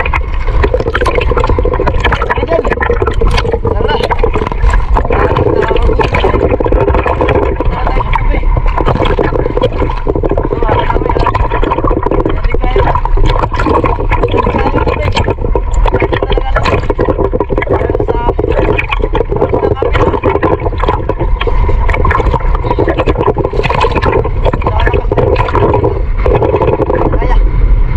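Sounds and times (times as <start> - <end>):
sea water sloshing and splashing: 0.0 - 27.9.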